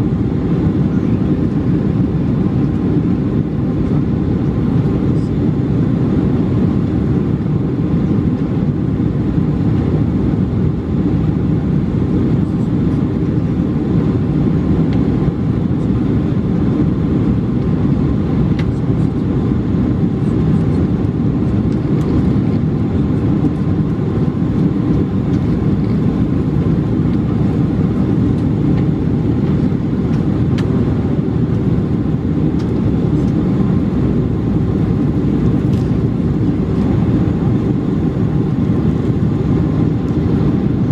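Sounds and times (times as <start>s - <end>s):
airplane engines and airflow rumble: 0.0s - 40.9s.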